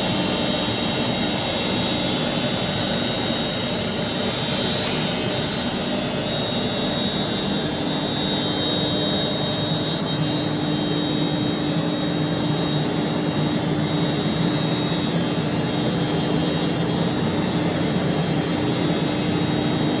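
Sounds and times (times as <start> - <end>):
machine drone with high whine: 0.0 - 20.0.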